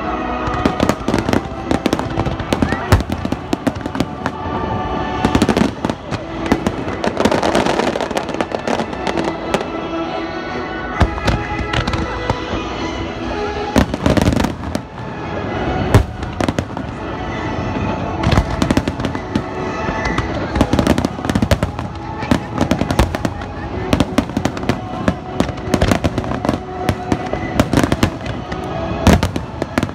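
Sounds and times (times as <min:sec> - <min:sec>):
fireworks bangs and crackles: 0:00.0 - 0:29.9
music: 0:00.0 - 0:29.9.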